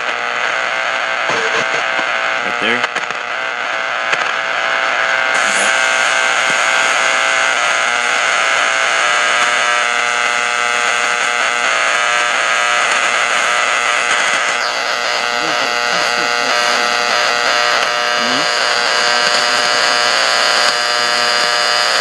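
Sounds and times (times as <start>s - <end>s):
radio static: 0.0s - 22.0s
steady buzzing tone: 0.0s - 22.0s.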